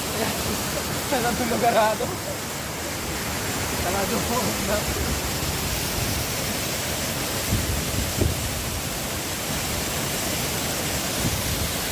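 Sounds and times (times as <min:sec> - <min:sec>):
waterfall roaring: 0:00.0 - 0:11.9.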